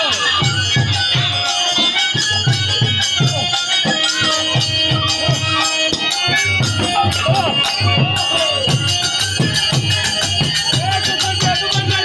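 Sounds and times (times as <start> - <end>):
hand drum beating: 0.0 - 12.0
small hand cymbals clashing: 0.0 - 12.0.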